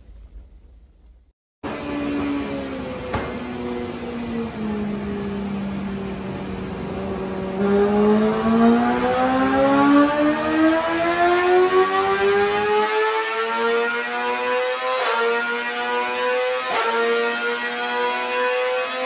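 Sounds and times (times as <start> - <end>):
motorcycle engine revving: 1.6 - 19.0.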